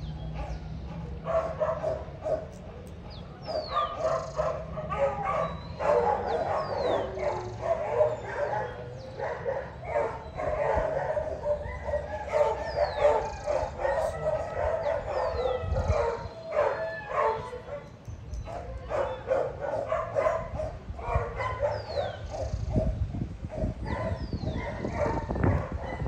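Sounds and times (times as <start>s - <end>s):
dogs barking and yipping: 0.0s - 26.0s
dogs howling: 0.2s - 22.9s, 23.6s - 26.0s.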